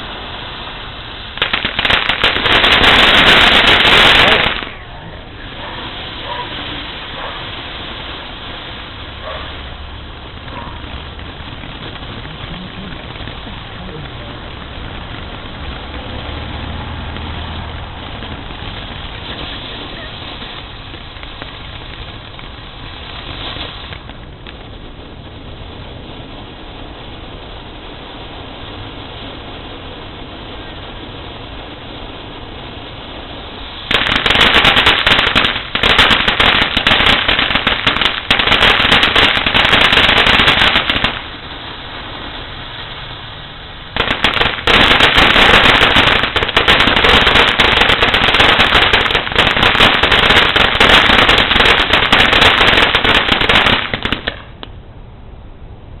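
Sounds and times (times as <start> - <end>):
firecrackers popping rapidly: 0.0 - 54.8
steady hiss: 0.0 - 56.0.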